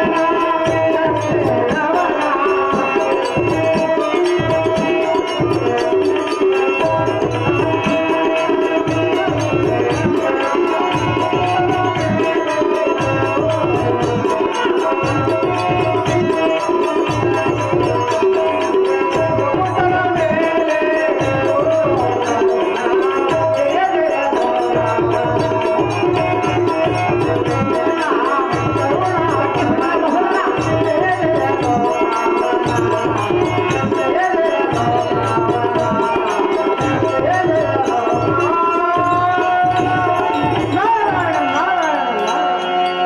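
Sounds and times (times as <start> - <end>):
hand drums beating: 0.0 - 43.0.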